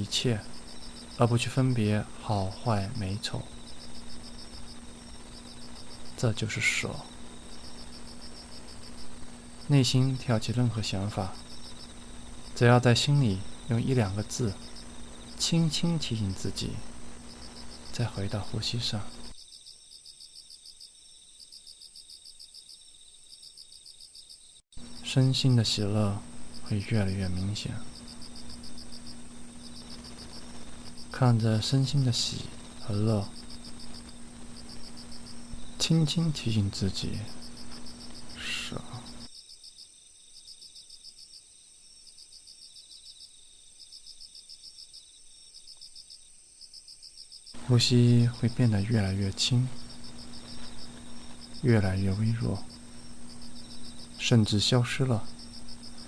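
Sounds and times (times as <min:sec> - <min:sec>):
crickets chirping: 0:00.0 - 0:56.0
high-pitched insect hum: 0:00.0 - 0:56.0.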